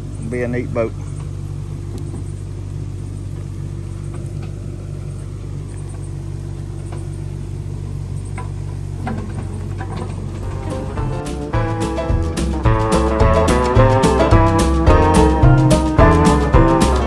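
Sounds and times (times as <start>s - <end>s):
excavator engine droning: 0.0s - 17.0s.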